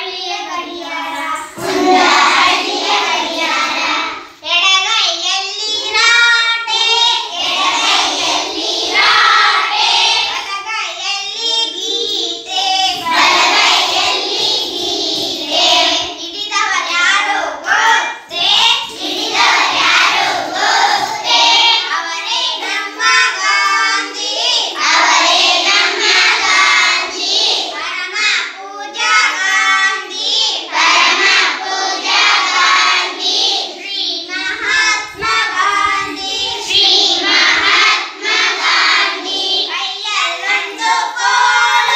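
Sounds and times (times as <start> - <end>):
children singing in chorus: 0.0 - 41.9.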